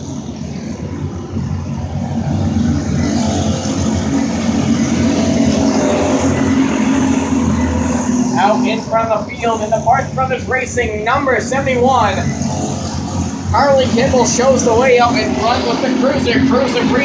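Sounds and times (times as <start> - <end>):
go-kart engines droning: 0.0 - 17.0.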